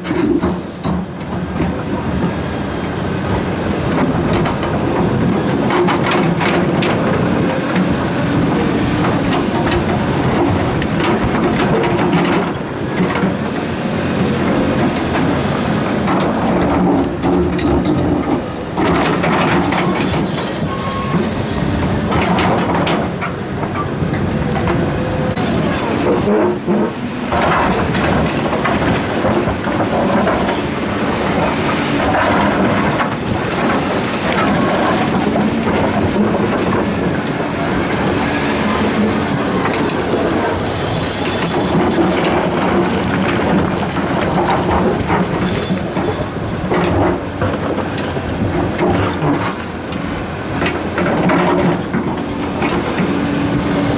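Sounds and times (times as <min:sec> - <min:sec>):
boulders knocking and grinding: 0:00.0 - 0:53.9
diesel engine running under load: 0:00.0 - 0:53.9.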